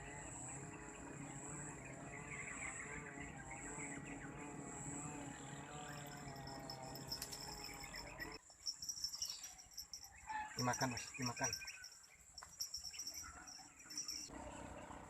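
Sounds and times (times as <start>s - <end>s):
insects trilling: 0.0s - 14.3s
faint birdsong: 0.0s - 15.0s.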